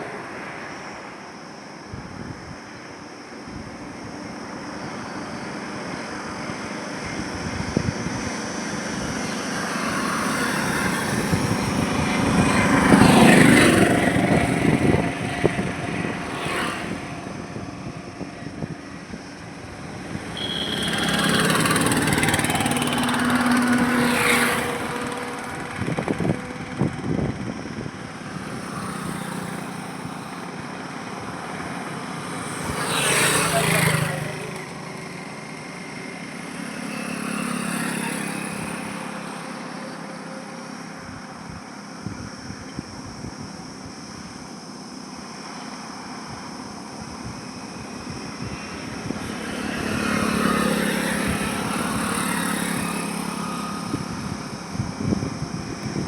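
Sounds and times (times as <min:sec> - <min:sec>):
highway traffic hum: 0:00.0 - 0:56.0
vehicles passing close: 0:00.0 - 0:56.0.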